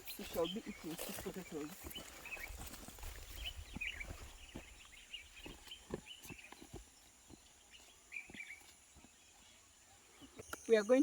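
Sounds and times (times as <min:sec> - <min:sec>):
footsteps on soft soil: 0:00.0 - 0:10.4
bird chirps: 0:00.0 - 0:11.0.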